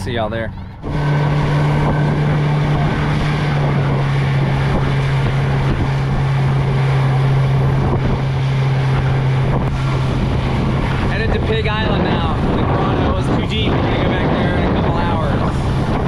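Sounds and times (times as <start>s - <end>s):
outboard motor humming: 0.0s - 16.0s
wind buffeting microphone: 0.0s - 16.0s.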